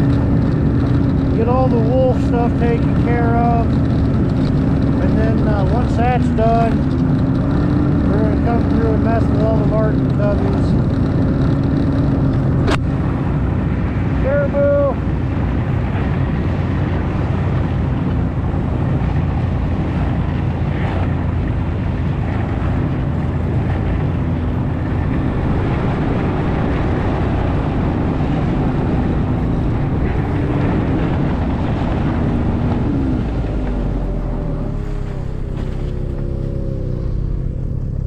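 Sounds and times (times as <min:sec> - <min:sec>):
snowmobile engine droning: 0:00.0 - 0:38.0.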